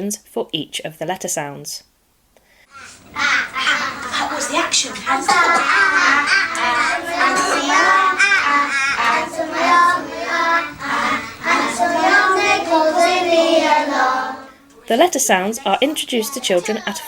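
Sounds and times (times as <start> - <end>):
young children singing: 2.7 - 17.0.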